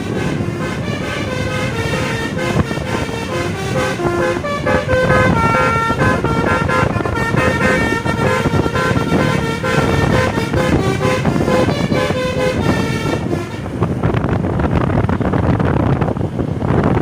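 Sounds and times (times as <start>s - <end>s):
musical air horn melody: 0.0s - 13.8s.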